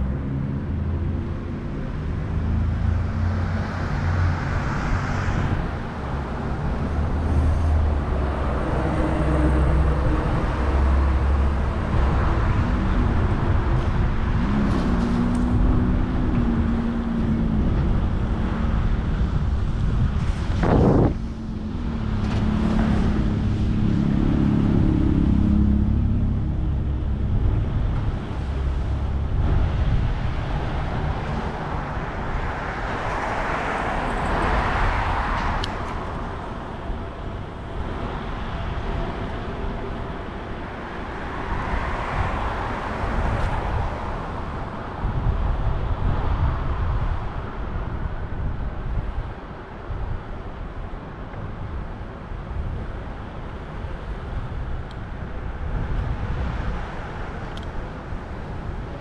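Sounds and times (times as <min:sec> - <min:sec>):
low engine rumble: 0:00.0 - 0:59.0
low wind rumble: 0:00.0 - 0:59.0
motor vehicles passing: 0:00.0 - 0:59.0.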